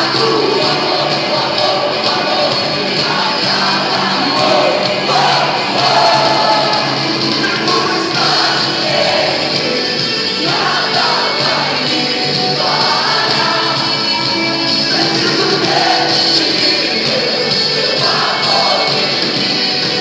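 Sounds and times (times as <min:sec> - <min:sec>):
crowd: 0:00.0 - 0:20.0
rock band playing loudly: 0:00.0 - 0:20.0
voices singing: 0:00.0 - 0:20.0.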